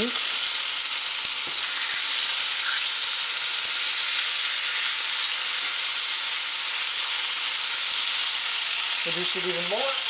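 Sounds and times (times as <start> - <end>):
pork sizzling in a pan: 0.0 - 10.0.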